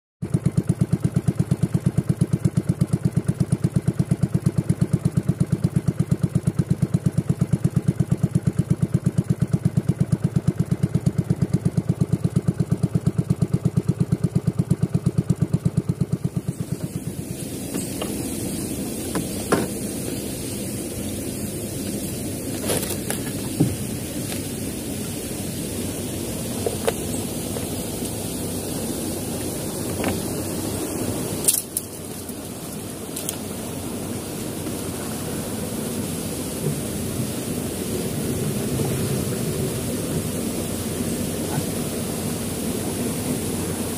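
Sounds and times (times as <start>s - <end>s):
boat engine chugging: 0.2s - 43.9s.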